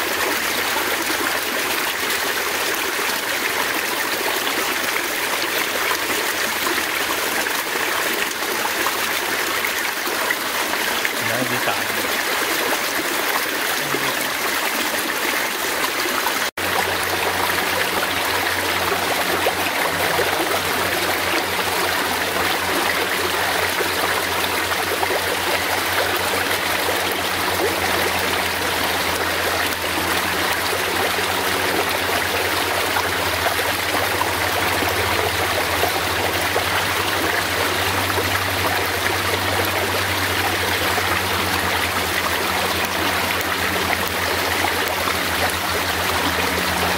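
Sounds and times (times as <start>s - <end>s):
forest stream trickling: 0.0s - 46.9s.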